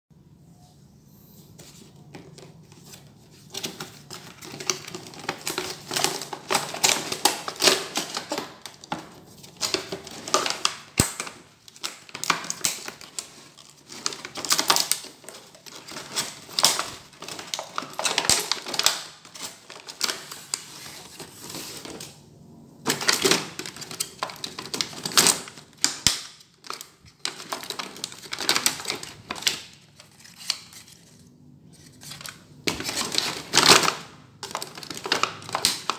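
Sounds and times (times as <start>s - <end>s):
plastic jigsaw pieces clattering: 3.5s - 21.4s, 22.9s - 30.9s, 32.0s - 35.9s.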